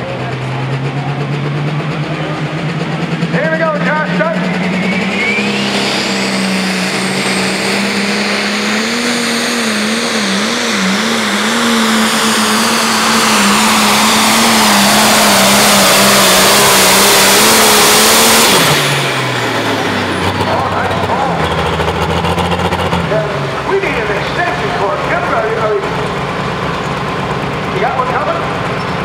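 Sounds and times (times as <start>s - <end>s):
diesel tractor engine at full throttle: 0.0s - 29.0s.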